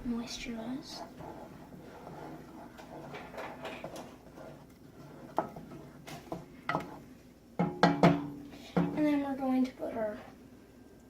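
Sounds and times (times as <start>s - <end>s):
soft stirring in a pan: 0.0s - 11.0s.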